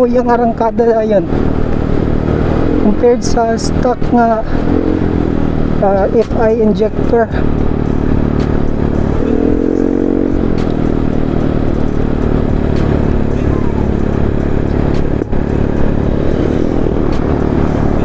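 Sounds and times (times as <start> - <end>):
scooter engine running: 0.1 - 18.0.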